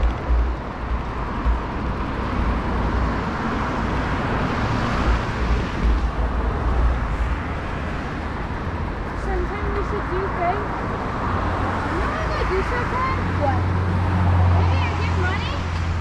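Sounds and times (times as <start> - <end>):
car traffic: 0.0 - 16.0
wind rumbling on microphone: 0.0 - 16.0.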